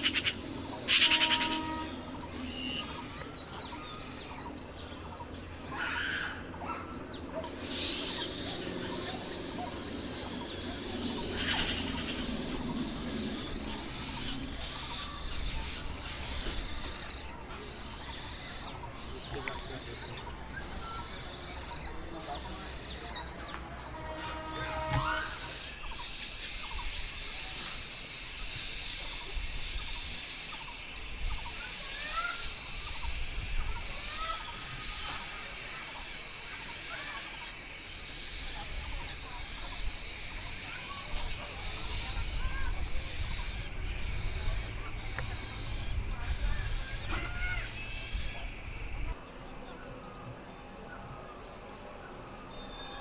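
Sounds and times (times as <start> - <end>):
magpies chattering calls: 0.0 - 23.4, 25.0 - 49.2
steady high hiss: 0.0 - 53.0.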